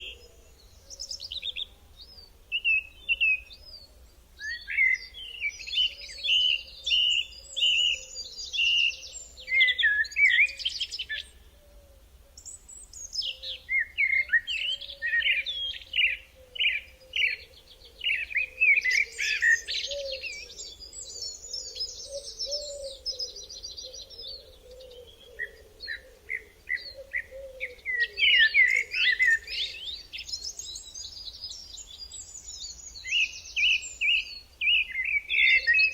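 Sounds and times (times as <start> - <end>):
songbirds chirping and singing: 0.0 - 35.9.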